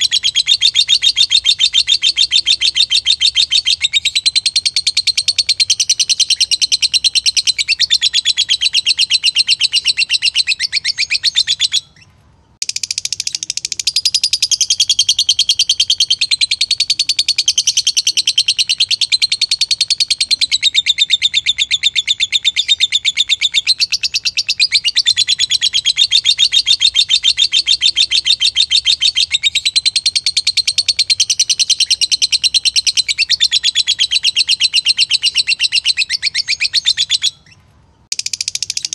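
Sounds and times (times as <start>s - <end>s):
lovebird chattering trill: 0.0s - 38.9s.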